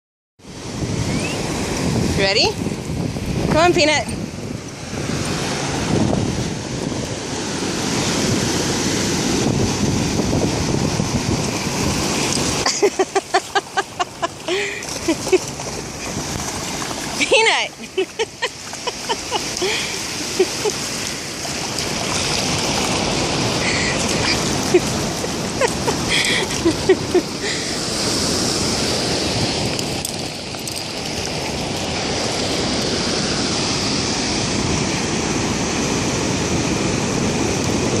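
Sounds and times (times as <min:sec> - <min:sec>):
ocean surf washing: 0:00.4 - 0:38.0.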